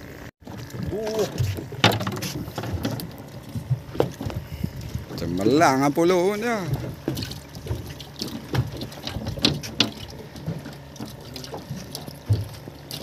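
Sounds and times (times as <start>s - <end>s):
steady low hum: 0.0s - 13.0s
water sloshing and splashing: 0.4s - 13.0s.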